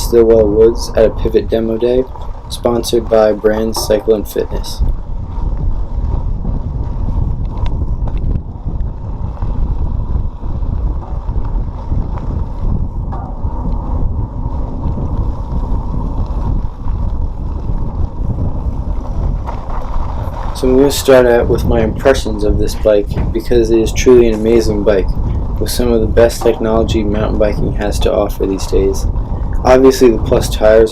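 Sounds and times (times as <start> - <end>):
bike rattling: 0.0 - 30.9
wind buffeting microphone: 0.0 - 30.9.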